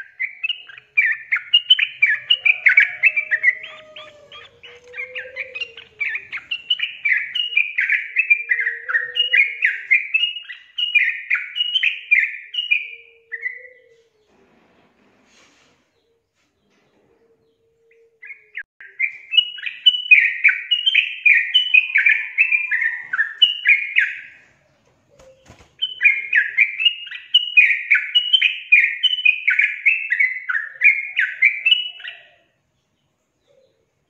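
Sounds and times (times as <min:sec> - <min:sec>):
bird chattering song: 0:00.0 - 0:14.3, 0:17.2 - 0:34.0.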